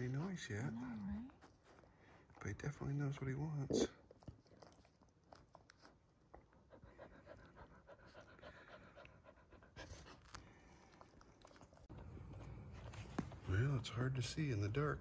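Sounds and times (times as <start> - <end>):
dog panting softly: 0.0 - 13.4.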